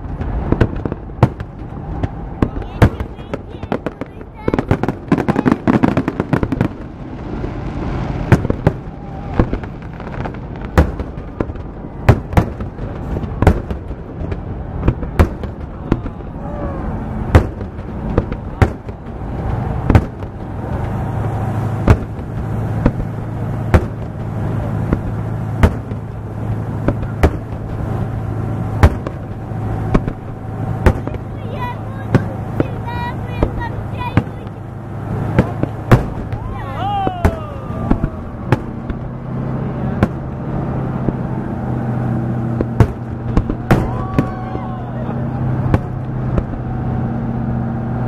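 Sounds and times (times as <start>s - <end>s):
fireworks bursting: 0.0s - 47.4s
continuous rumble: 0.0s - 48.0s.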